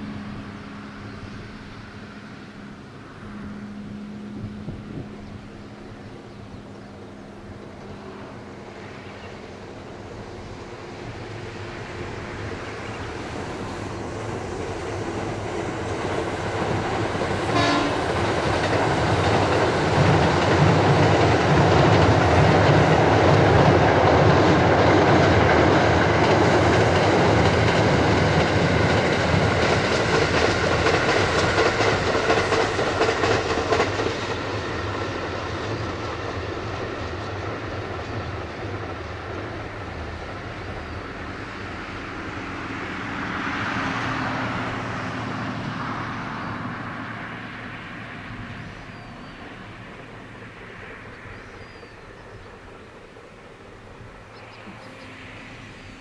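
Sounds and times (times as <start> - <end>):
train crossing steel bridge: 0.0 - 56.0
wheels clattering on rails: 9.1 - 56.0.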